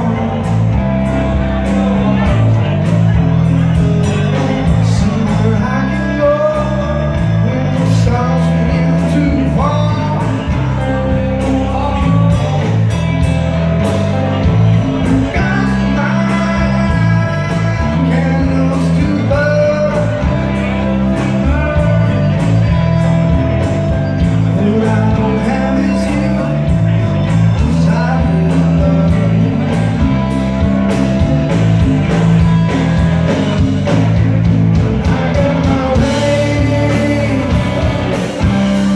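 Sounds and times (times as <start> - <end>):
bass guitar: 0.0 - 38.9
drum kit: 0.0 - 38.9
electric guitars: 0.0 - 38.9.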